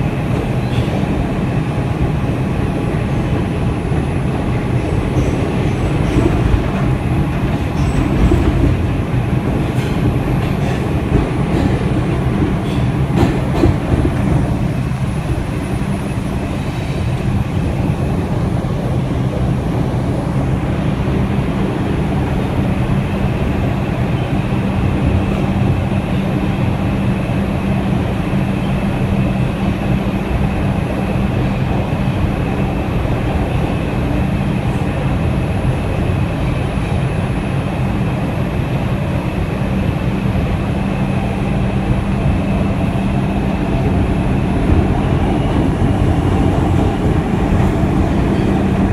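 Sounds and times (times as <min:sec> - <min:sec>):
subway wheels rumbling on rail: 0:00.0 - 0:48.9.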